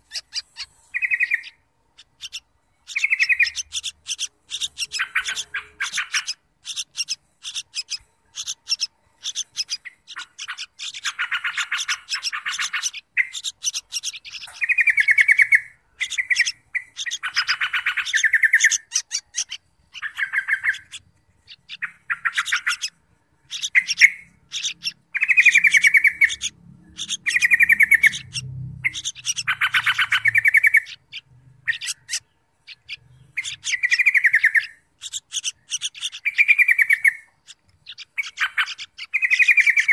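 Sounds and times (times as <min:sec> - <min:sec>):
harsh bird calls: 0:00.0 - 0:39.9
high bird chirps: 0:00.0 - 0:39.9.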